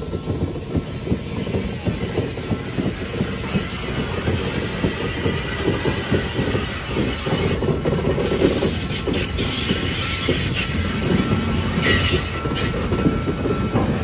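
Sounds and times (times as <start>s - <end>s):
train wheels clacking on rails: 0.0s - 14.0s.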